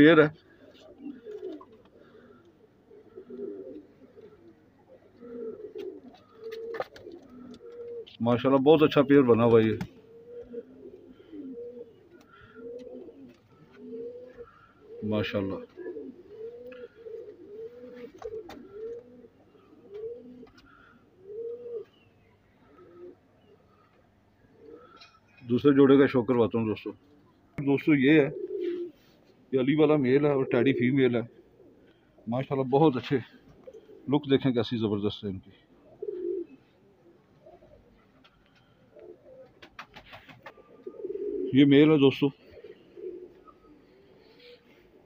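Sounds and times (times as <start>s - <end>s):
pigeons cooing: 0.0s - 34.6s, 35.4s - 45.0s.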